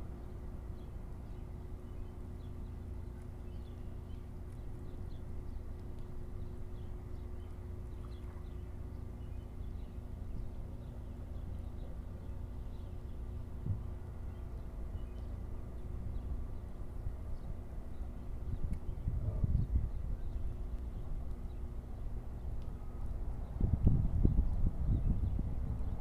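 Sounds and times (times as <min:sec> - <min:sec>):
droning hum: 0:00.0 - 0:26.0
low rumble: 0:00.0 - 0:26.0.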